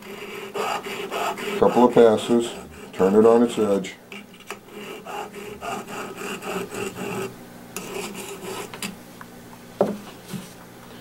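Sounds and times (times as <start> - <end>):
stone rubbing on metal: 0.0 - 9.0.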